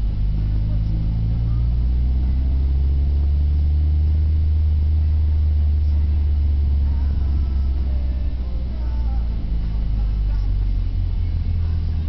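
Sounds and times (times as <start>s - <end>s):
car exhaust rumble inside cabin: 0.0s - 12.0s.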